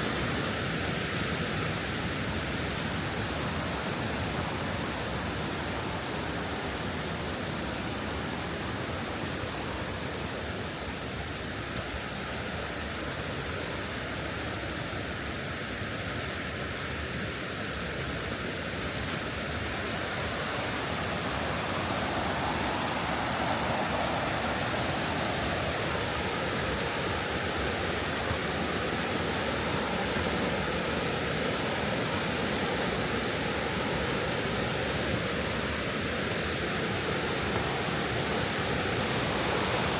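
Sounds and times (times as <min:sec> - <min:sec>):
water rushing in stream: 0:00.0 - 0:39.9.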